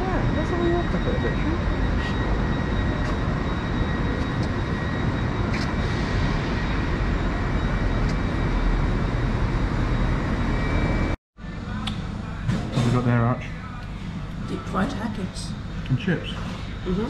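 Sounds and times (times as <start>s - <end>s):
faint high whine: 0.0s - 14.7s
low station platform noise: 0.0s - 17.0s.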